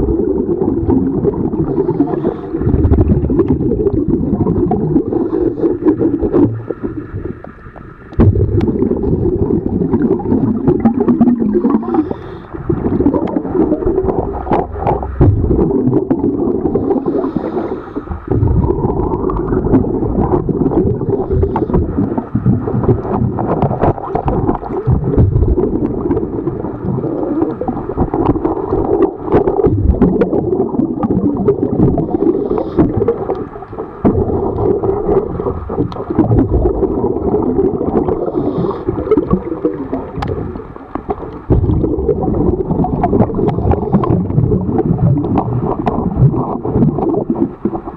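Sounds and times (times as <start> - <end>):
muffled underwater gurgling: 0.0 - 47.9.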